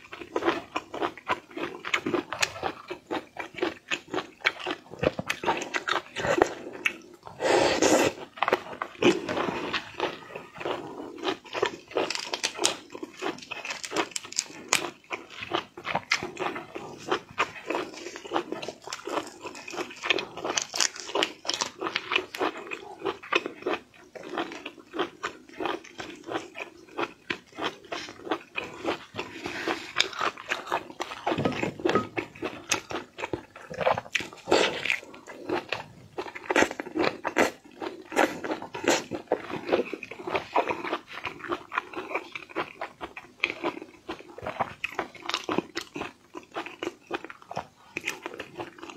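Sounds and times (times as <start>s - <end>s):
wet chewing and smacking: 0.0s - 7.4s, 8.1s - 48.9s.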